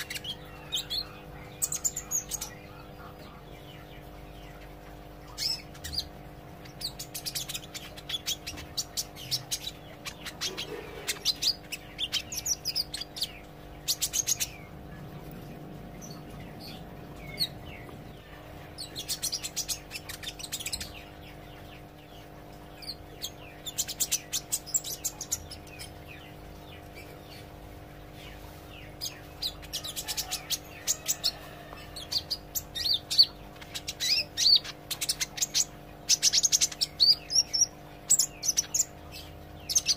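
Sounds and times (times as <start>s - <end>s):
small bird chirping and trilling: 0.0s - 39.9s
steady low hum: 0.0s - 39.9s.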